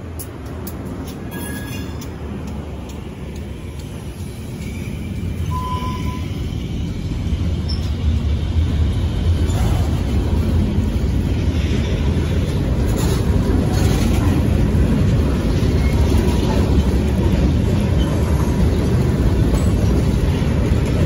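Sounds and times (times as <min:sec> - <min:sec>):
freight cars rolling: 0:00.0 - 0:21.0.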